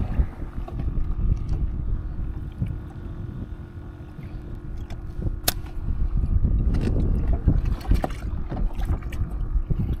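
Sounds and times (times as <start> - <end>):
faint steady hum: 0.0 - 10.0
wind buffeting microphone: 0.0 - 10.0.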